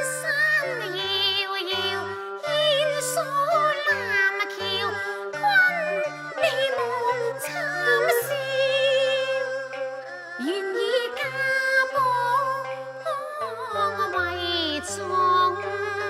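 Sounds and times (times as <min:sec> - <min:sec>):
opera ensemble melody: 0:00.0 - 0:16.0.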